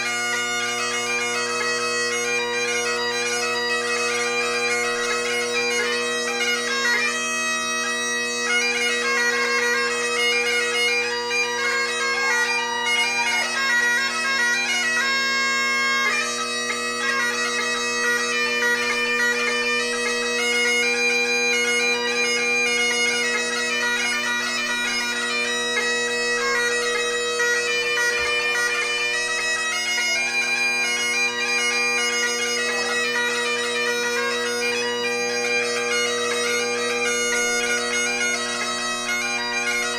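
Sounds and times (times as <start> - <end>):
bagpipe playing a tune: 0.0 - 39.9.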